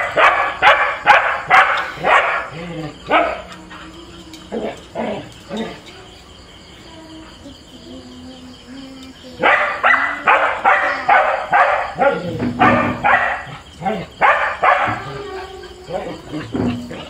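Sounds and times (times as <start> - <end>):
dogs barking: 0.0 - 6.2, 9.4 - 17.0.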